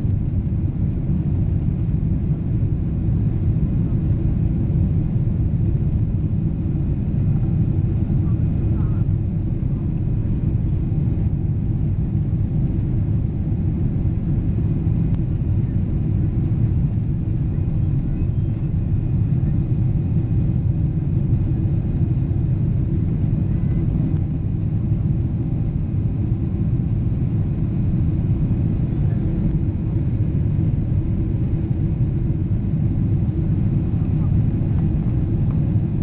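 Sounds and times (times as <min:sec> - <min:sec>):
jet engines rumbling in cabin: 0:00.0 - 0:36.0.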